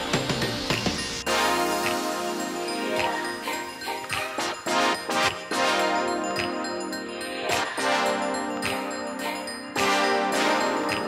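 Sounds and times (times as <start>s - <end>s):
background music held notes: 0.0s - 11.0s
sharp percussion hits: 0.0s - 11.0s.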